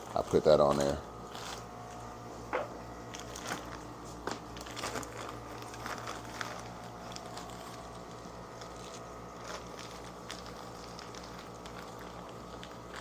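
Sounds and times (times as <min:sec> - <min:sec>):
low electrical hum: 0:00.0 - 0:13.0
plastic bag crinkling: 0:00.0 - 0:13.0.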